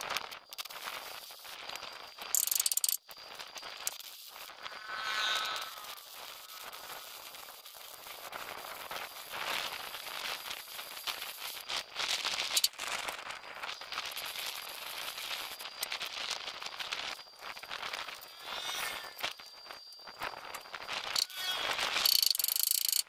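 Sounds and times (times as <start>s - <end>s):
welding arc crackling: 0.0s - 23.0s.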